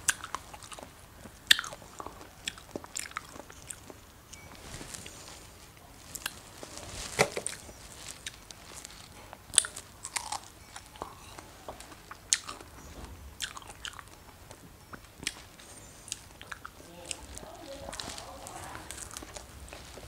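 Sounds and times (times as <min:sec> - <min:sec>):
person chewing strawberries: 0:00.0 - 0:20.0.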